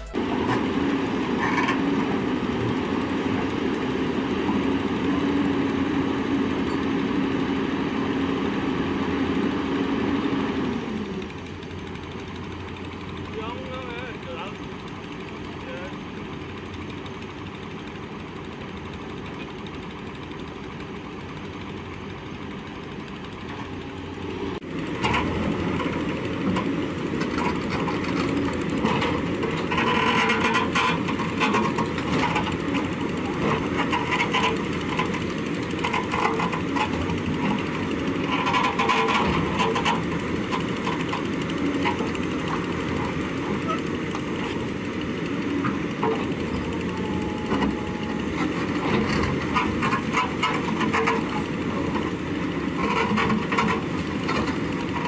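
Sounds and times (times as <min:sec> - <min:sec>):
heavy machinery engine running: 0:00.0 - 0:55.0.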